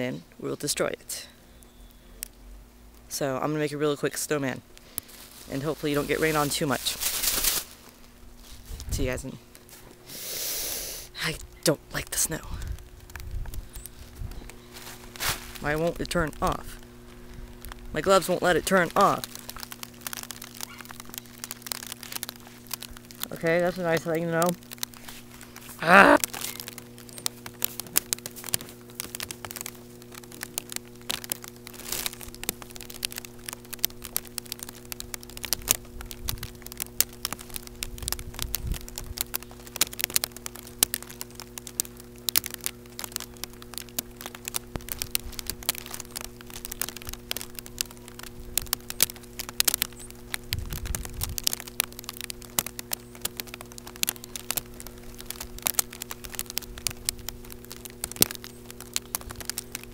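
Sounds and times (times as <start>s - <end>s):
raindrops hitting microphone: 0.0s - 59.9s
steady low hum: 0.0s - 59.9s.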